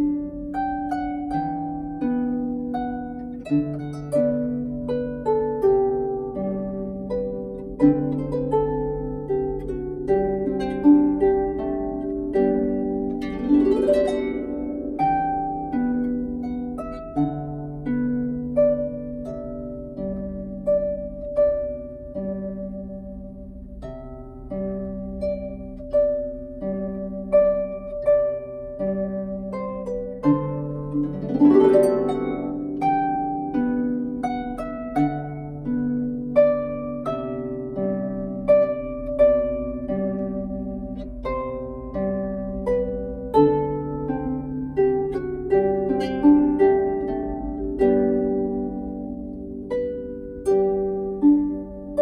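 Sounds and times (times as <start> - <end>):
harp plucked melody: 0.0 - 52.0.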